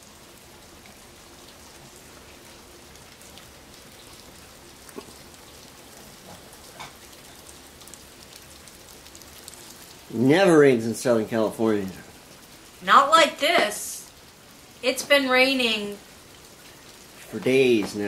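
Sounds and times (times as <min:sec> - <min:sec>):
faint raindrop ticks: 0:00.0 - 0:18.0
steady rain falling: 0:00.0 - 0:18.0.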